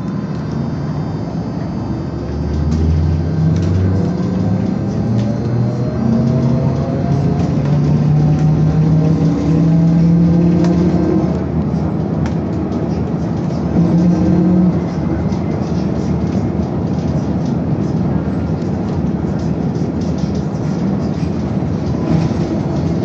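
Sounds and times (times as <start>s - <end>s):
road rumble: 0.0s - 23.0s.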